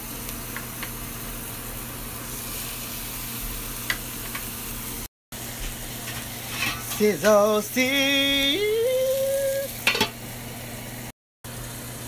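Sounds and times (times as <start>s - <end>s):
steak sizzling in frying pan: 0.0s - 12.0s.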